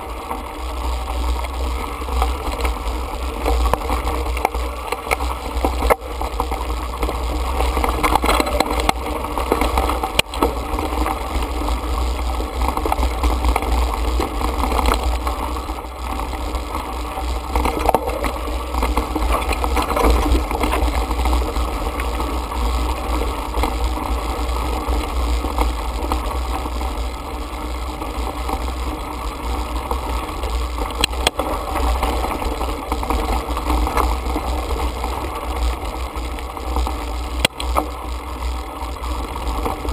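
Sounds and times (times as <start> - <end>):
bike rattling: 0.0 - 39.9
tyres rolling over gravel: 0.0 - 39.9.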